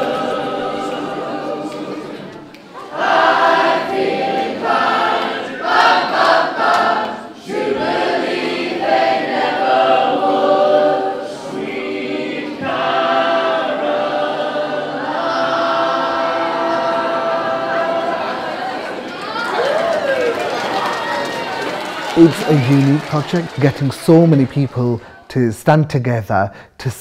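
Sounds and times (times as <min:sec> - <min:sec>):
choir singing unaccompanied: 0:00.0 - 0:25.2.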